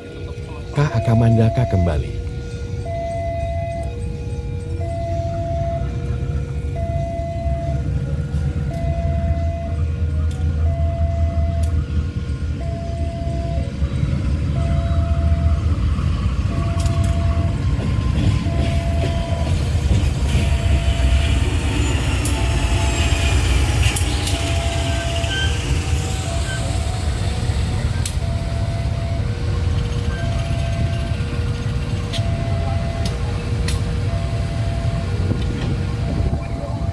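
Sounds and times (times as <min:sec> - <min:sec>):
locomotive rumbling: 0:00.0 - 0:36.9.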